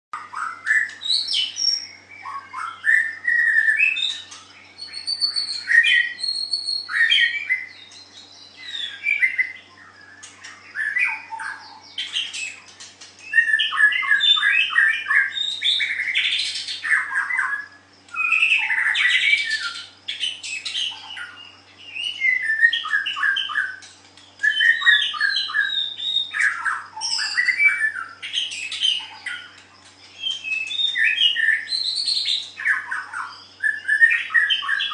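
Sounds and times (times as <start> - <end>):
bird singing and whistling: 0.2 - 34.9
faint electrical hum: 0.2 - 34.9.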